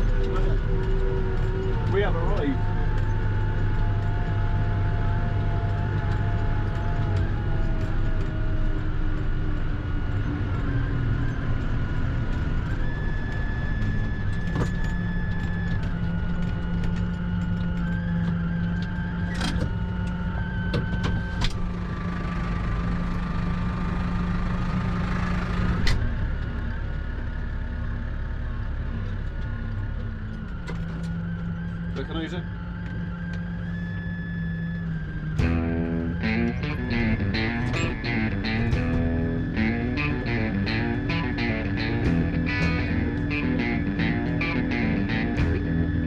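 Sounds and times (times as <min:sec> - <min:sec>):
vehicle engine running: 0:00.0 - 0:19.3, 0:21.6 - 0:31.9, 0:32.6 - 0:46.0.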